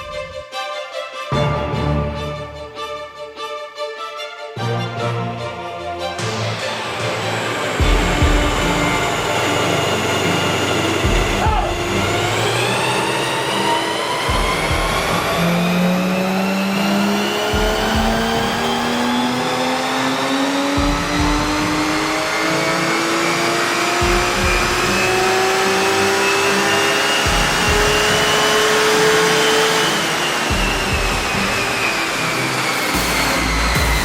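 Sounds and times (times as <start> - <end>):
car engine revving: 6.2 - 34.0.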